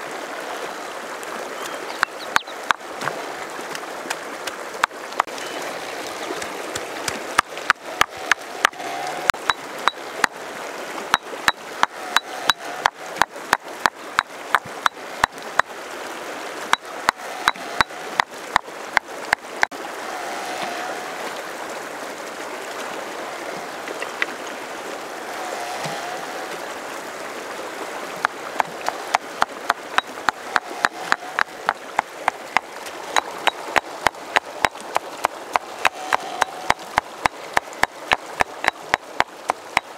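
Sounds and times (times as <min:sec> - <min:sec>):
fast river rushing: 0:00.0 - 0:39.9.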